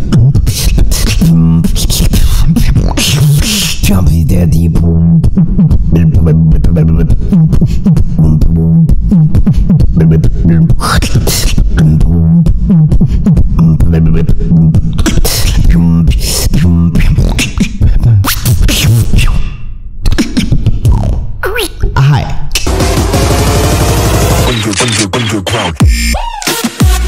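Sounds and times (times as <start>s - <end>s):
vocal beatbox: 0.0s - 23.0s, 24.1s - 27.0s.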